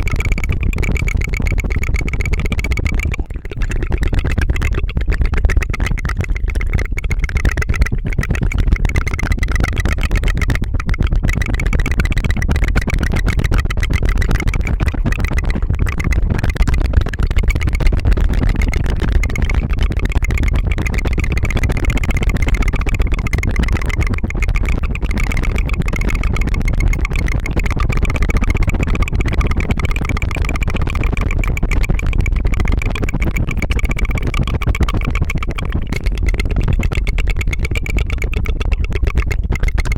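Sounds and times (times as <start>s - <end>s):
rapid tongue fluttering: 0.0s - 39.9s.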